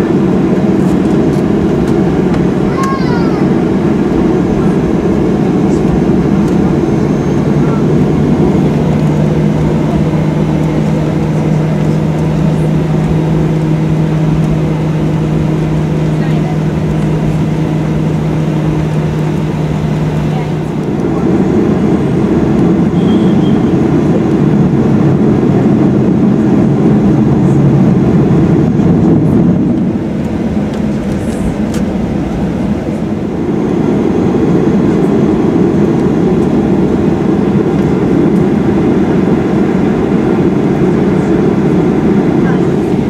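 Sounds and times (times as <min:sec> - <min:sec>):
jet engines rumbling: 0:00.0 - 0:43.0.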